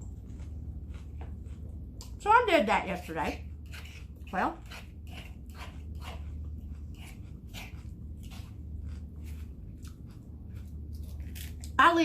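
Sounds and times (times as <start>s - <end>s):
chewing crunchy salad: 0.0s - 11.8s
low hum: 0.0s - 12.0s.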